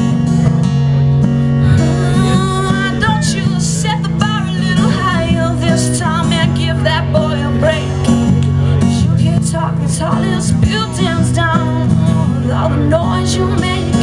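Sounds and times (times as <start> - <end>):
acoustic guitar strumming: 0.0 - 14.0
woman singing wordlessly: 1.9 - 8.1, 9.0 - 14.0.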